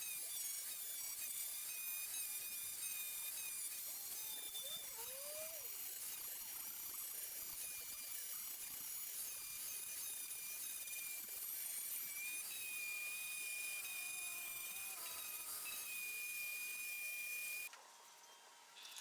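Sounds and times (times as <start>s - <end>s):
power grinder whining on metal: 1.7s - 17.7s.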